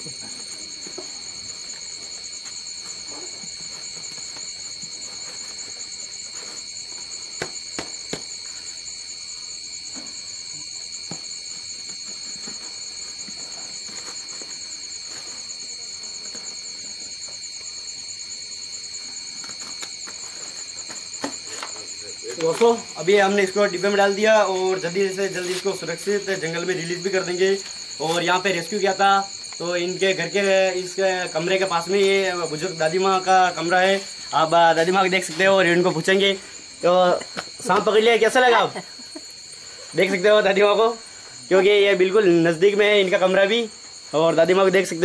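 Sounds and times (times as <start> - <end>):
crickets chirring: 0.0 - 45.0.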